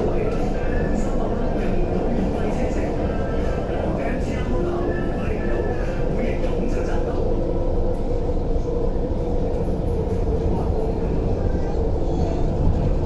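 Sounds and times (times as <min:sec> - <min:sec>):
steady hum: 0:00.0 - 0:13.0
train wheels rumbling on rails: 0:00.0 - 0:13.0.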